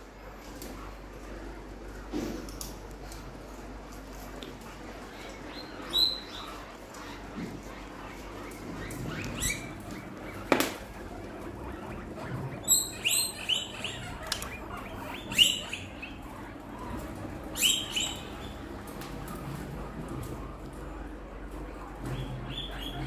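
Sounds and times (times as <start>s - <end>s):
guinea pigs squeaking: 0.0s - 23.0s.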